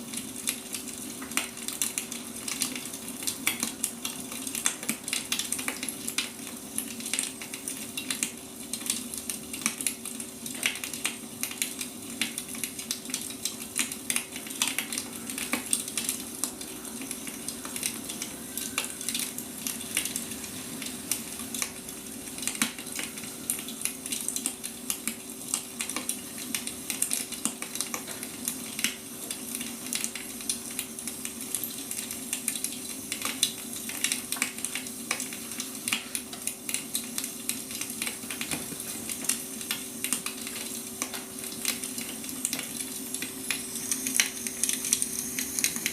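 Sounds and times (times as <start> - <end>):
firewood crackling and popping: 0.0 - 45.9.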